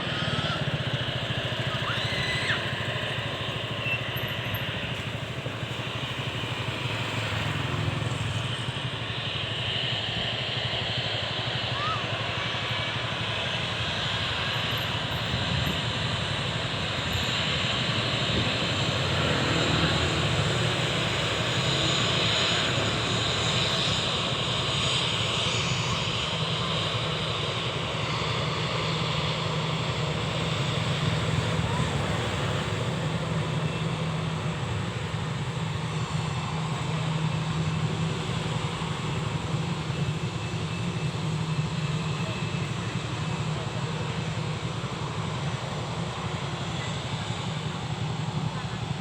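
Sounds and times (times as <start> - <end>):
jet engines rushing: 0.0 - 49.0.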